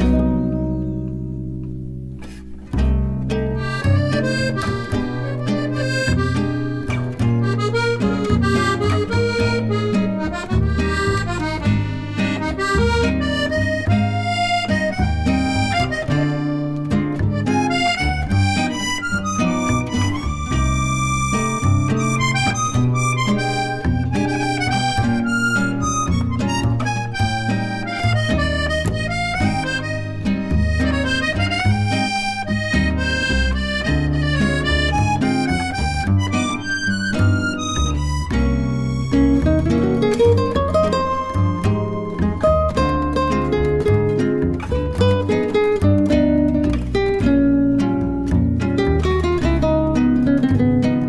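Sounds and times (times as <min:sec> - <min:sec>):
bass notes: 0:00.0 - 0:51.0
instrumental background music: 0:00.0 - 0:51.0
reedy melody: 0:00.0 - 0:51.0.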